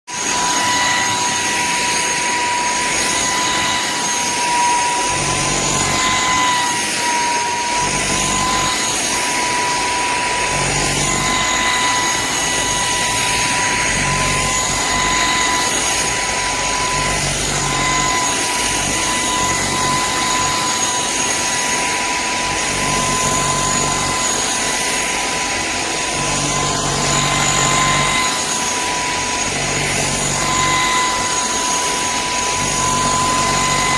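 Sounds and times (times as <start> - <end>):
stick vacuum motor whining: 0.0 - 33.9.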